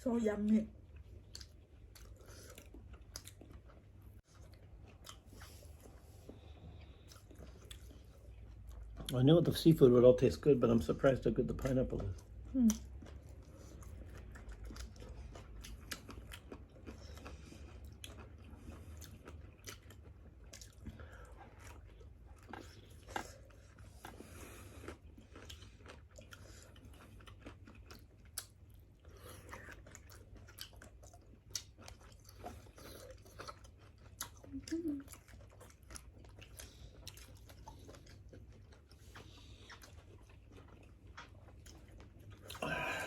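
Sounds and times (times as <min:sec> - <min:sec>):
faint chewing: 0:00.7 - 0:43.0.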